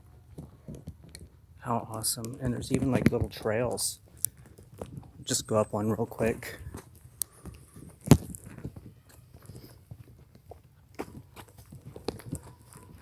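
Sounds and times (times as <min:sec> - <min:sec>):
footsteps crunching on trail: 0:00.0 - 0:13.0.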